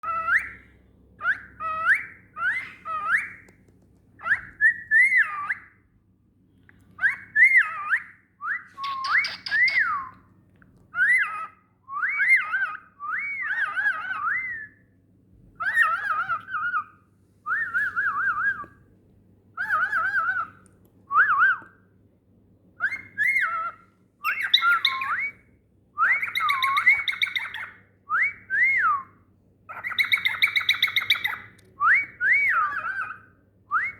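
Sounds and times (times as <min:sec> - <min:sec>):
cockatiel whistling: 0:00.0 - 0:03.5, 0:04.2 - 0:05.8, 0:07.0 - 0:10.2, 0:10.9 - 0:14.8, 0:15.6 - 0:18.8, 0:19.6 - 0:21.8, 0:22.8 - 0:25.4, 0:26.0 - 0:29.1, 0:29.7 - 0:33.9.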